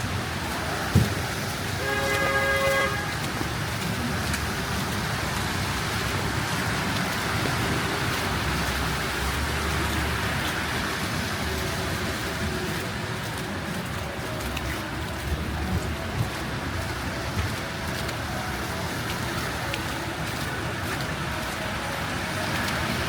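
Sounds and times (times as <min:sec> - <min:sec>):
traffic tyres on slush: 0:00.0 - 0:23.0.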